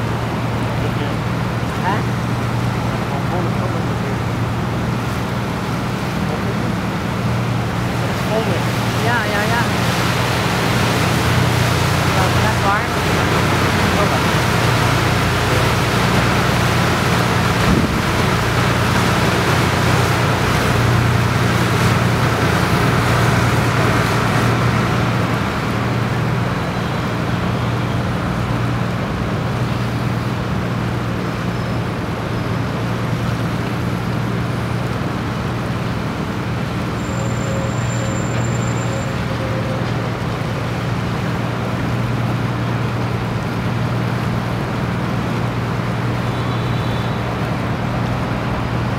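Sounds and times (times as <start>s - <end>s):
motor boat engine running: 0.0s - 48.9s.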